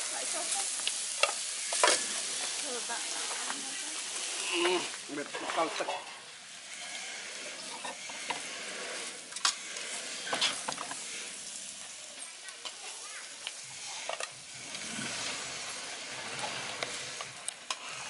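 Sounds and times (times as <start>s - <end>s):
meat sizzling while frying: 0.0s - 18.0s.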